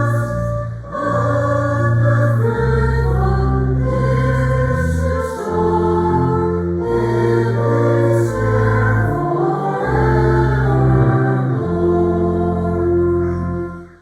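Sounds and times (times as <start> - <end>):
choir singing a hymn: 0.0 - 14.0
held bass notes: 0.0 - 14.0.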